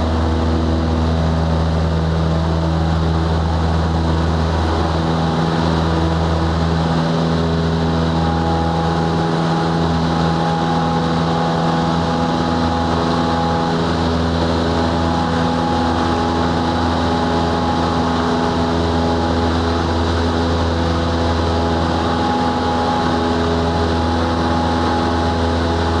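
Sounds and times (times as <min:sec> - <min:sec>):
aircraft engine and propeller drone: 0:00.0 - 0:26.0.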